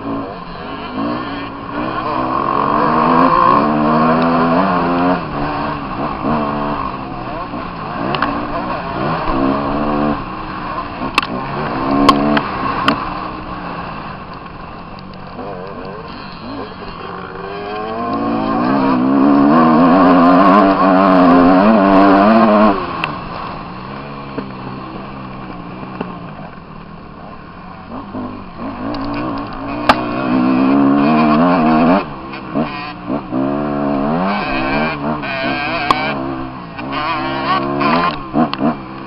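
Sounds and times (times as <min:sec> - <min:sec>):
motocross bike engine revving: 0:00.0 - 0:39.0.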